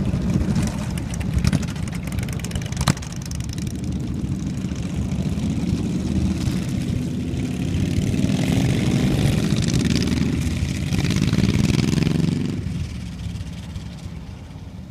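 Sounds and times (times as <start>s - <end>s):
motorcycles riding past: 0.0s - 14.9s.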